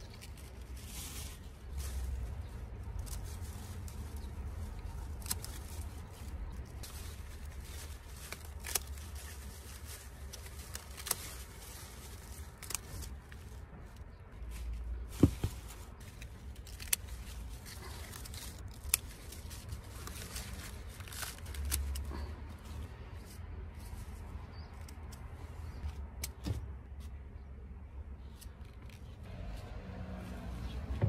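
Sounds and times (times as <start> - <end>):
leaves crinkling: 0.0 - 26.0.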